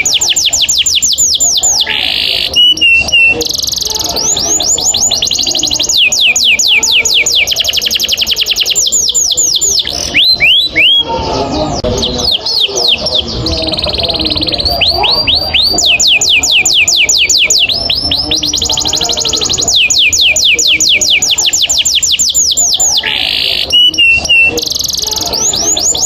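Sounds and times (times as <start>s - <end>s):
canary singing trill: 0.0s - 26.0s.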